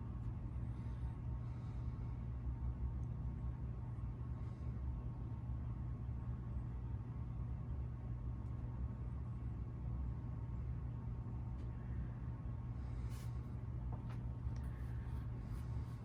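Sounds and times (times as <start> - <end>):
ceiling fan motor humming: 0.0 - 16.0.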